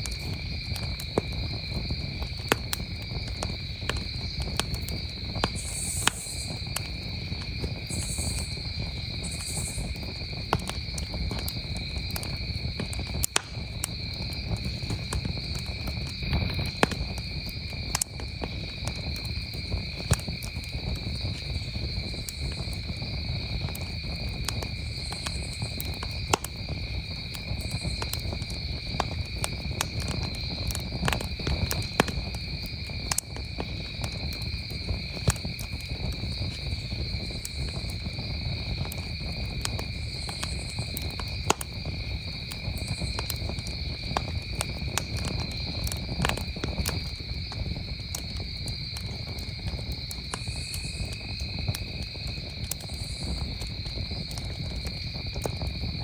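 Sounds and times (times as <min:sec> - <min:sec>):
campfire crackling and popping: 0:00.0 - 0:56.0
crickets chirping: 0:00.0 - 0:56.0.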